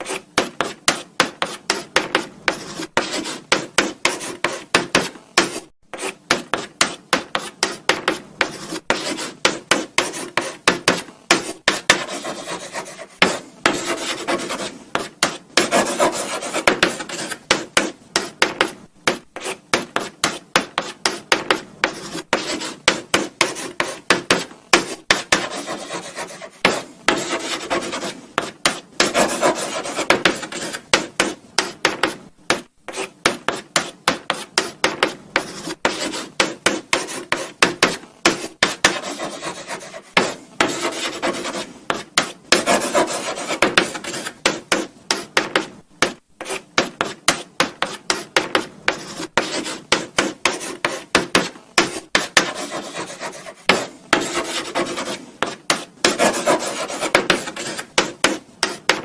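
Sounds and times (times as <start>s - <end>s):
chalk scratching on blackboard: 0.0s - 59.0s.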